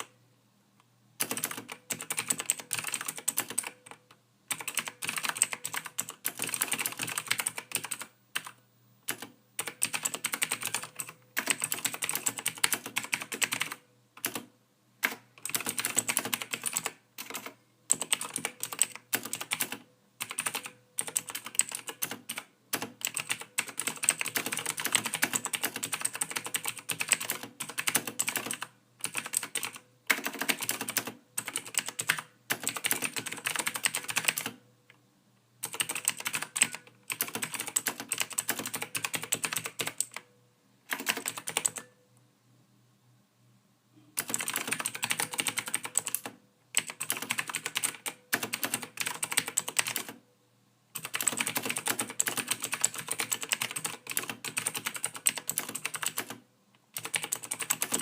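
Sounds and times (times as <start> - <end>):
typing on computer keyboard: 1.2 - 34.6, 35.6 - 40.3, 40.9 - 41.9, 44.2 - 50.2, 51.0 - 58.0.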